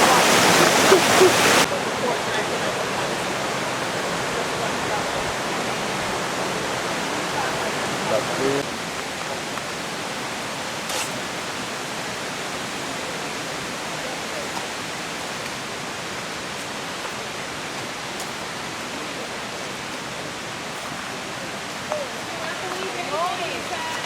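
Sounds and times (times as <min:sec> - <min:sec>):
water rushing hiss: 0:00.0 - 0:24.0.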